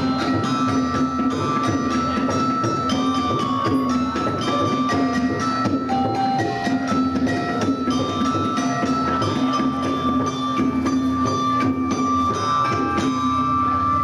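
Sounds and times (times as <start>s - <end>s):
hand drum beat: 0.0s - 13.7s
stringed instrument droning melody: 0.0s - 14.0s.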